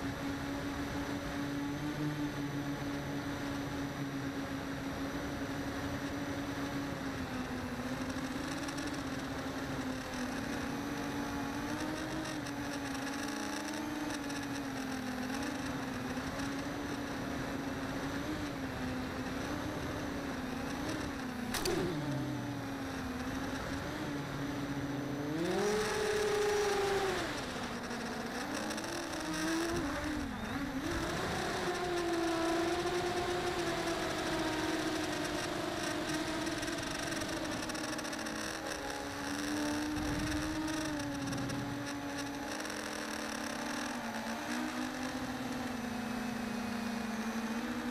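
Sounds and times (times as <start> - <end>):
electric model motor whine: 5.2 - 47.9.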